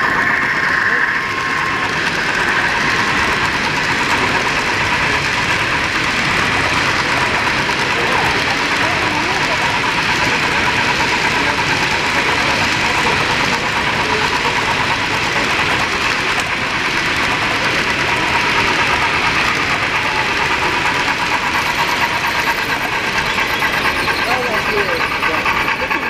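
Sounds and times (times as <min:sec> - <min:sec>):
model freight cars rolling: 0:00.0 - 0:26.0
model steam locomotive chuffing: 0:00.0 - 0:26.0.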